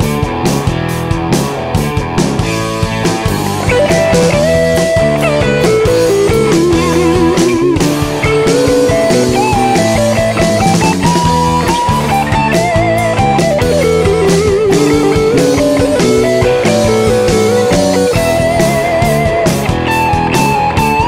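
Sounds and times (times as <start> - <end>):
bass: 0.0 - 21.0
drum beat: 0.0 - 21.0
electric guitar solo: 0.2 - 21.0.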